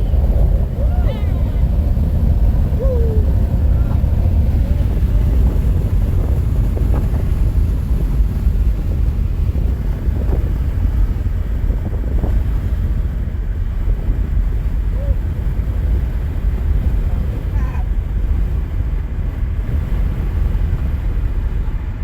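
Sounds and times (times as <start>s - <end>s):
car driving rumble: 0.0s - 22.0s
wind buffeting microphone: 0.0s - 22.0s.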